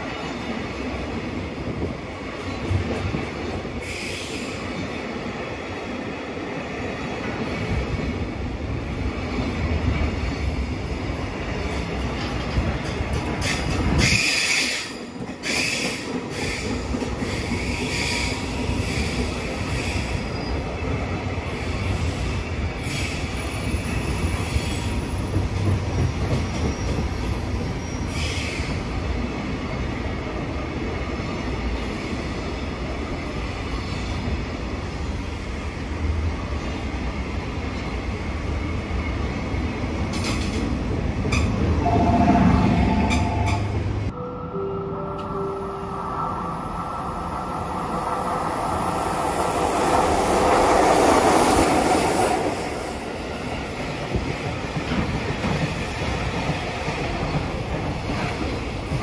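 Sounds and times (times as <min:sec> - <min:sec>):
train wheels rumbling on rail: 0:00.0 - 0:44.1, 0:46.8 - 0:59.0.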